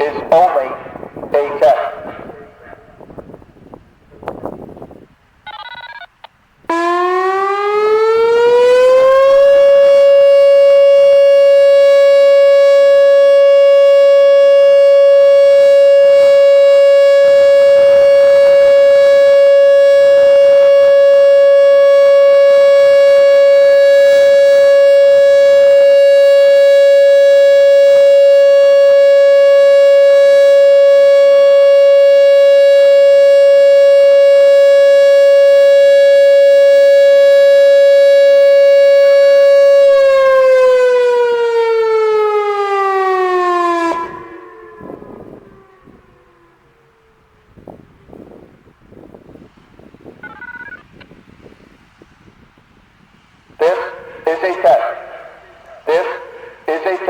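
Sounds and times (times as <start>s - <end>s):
electronic warning siren: 5.5s - 48.5s, 50.1s - 51.2s, 53.6s - 57.0s.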